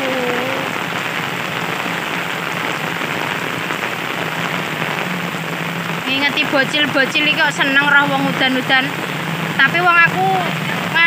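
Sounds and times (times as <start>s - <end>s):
heavy rain on pavement: 0.0s - 11.0s.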